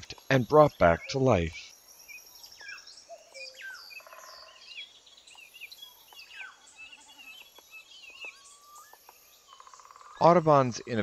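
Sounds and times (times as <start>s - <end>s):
birds chirping and whistling: 0.6s - 11.0s.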